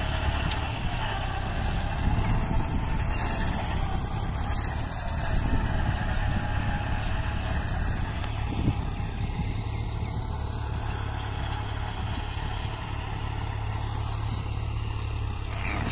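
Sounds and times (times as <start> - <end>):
tractor engine under load: 0.0 - 15.9.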